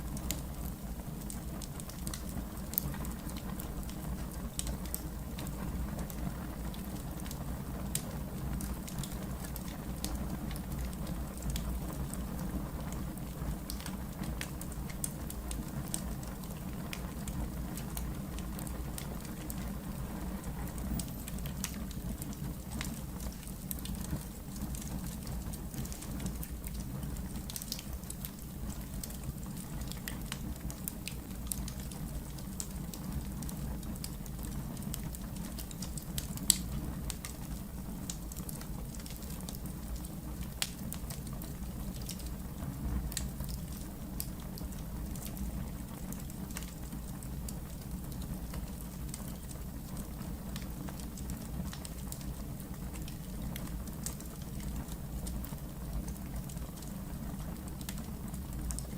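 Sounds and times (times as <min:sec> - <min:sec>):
fire crackling: 0:00.0 - 0:58.9
low rumble of fire: 0:00.0 - 0:58.9.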